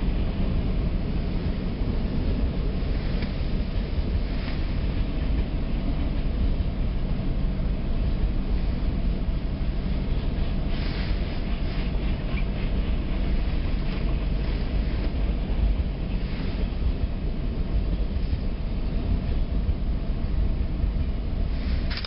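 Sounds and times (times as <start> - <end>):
freight train wheels rumbling on track: 0.0 - 22.0
train cars rattling: 0.0 - 22.0.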